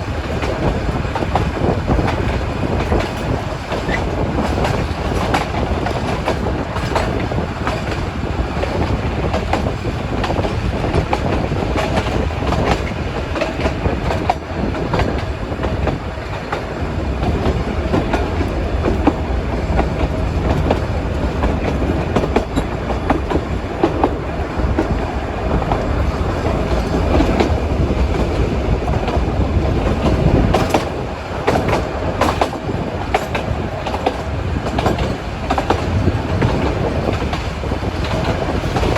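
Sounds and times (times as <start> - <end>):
train rumbling on track: 0.0 - 38.9
wheels clicking over rail joints: 0.0 - 38.9.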